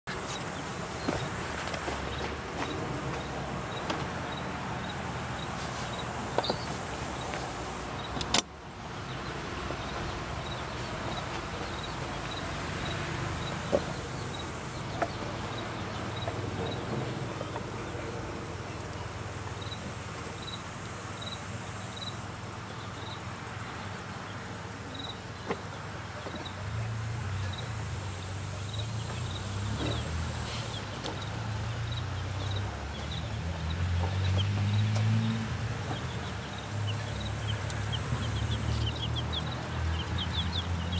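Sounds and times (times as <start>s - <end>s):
insects buzzing and chirping: 0.1s - 40.9s.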